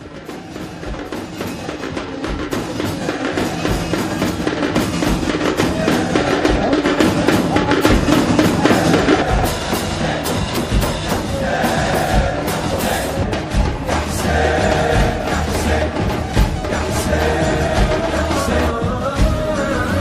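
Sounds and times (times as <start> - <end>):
deep bass drum beats: 0.0 - 20.0.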